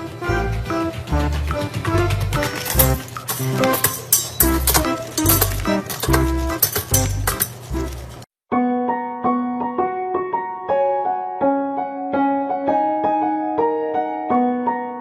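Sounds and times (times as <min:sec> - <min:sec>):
gentle piano tune: 0:00.0 - 0:15.0.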